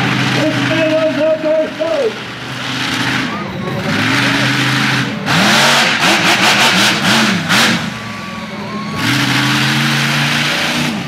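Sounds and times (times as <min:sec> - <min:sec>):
engine revving: 0:00.0 - 0:11.0
rushing exhaust noise: 0:00.0 - 0:11.0.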